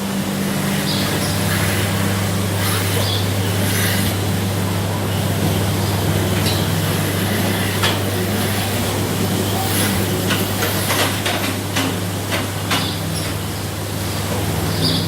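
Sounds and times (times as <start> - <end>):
milking machinery humming: 0.0 - 15.0.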